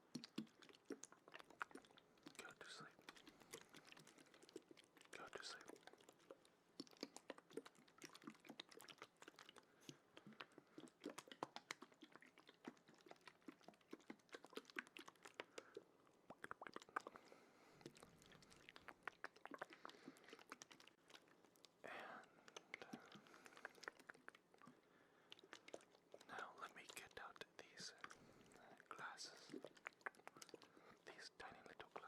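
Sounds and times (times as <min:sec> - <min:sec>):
wet mouth clicks and smacks: 0:00.0 - 0:32.0.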